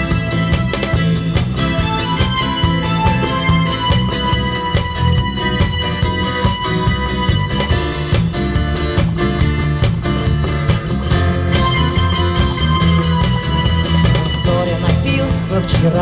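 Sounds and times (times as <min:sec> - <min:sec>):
pop-rock instrumental: 0:00.0 - 0:16.0.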